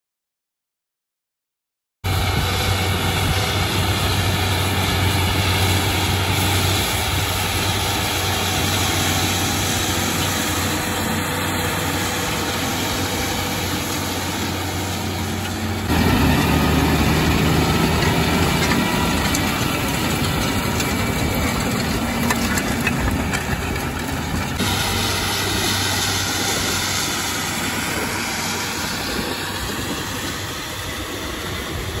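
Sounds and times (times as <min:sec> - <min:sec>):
tractor diesel engine under load: 0:02.1 - 0:32.0.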